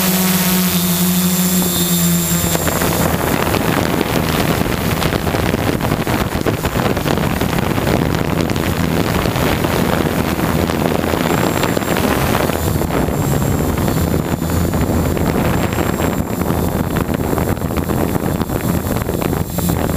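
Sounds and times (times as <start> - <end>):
drone motors and propellers: 0.0 - 19.9
faint high whine: 0.0 - 19.9
wind buffeting microphone: 0.0 - 19.9.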